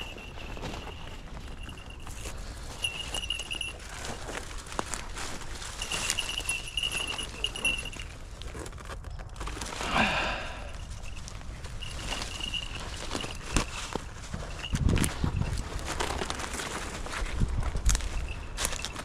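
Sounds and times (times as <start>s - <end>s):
footsteps: 0.0s - 8.0s, 10.5s - 19.0s
high steady ringing tone: 0.0s - 8.4s, 9.9s - 16.7s, 17.8s - 19.0s.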